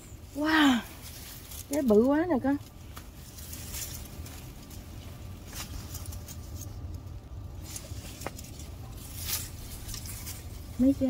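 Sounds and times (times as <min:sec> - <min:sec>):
leaves rustling and crackling: 0:00.0 - 0:11.0.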